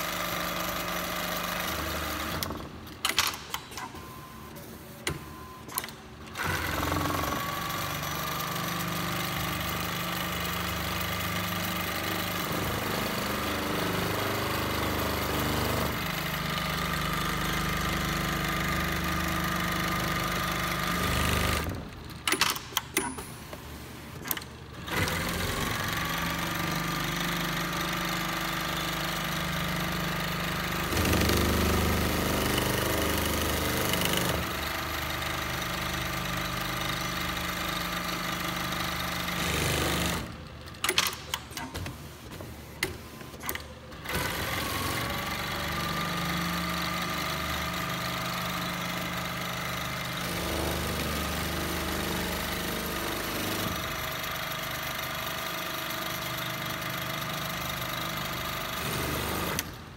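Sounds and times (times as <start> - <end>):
sewing machine stitching: 0.0 - 4.2, 5.1 - 23.3, 24.2 - 41.9, 42.7 - 59.9.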